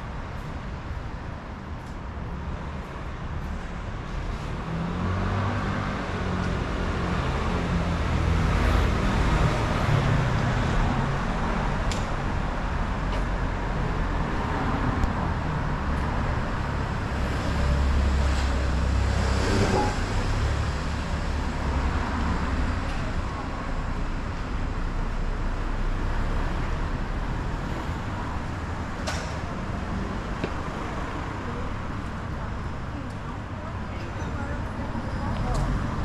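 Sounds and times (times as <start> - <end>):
cars passing on street: 0.0 - 36.0.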